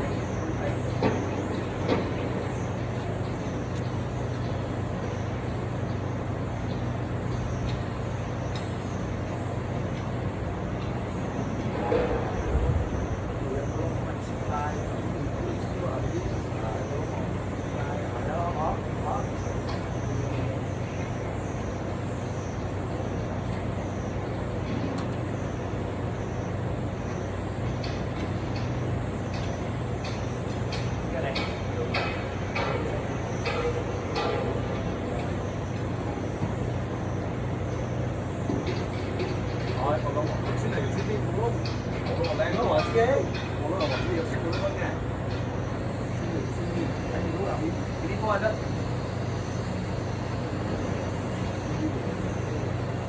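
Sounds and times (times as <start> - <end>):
fan rushing: 0.0 - 53.0
heat pump humming: 0.0 - 53.0.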